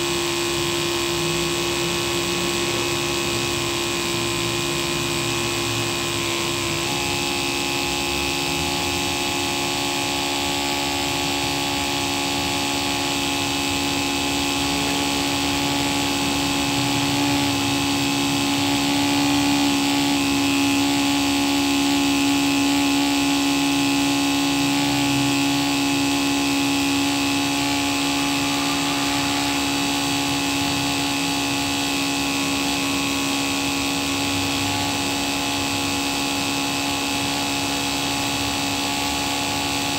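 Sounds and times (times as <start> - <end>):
sprayer pump motor humming: 0.0 - 39.9.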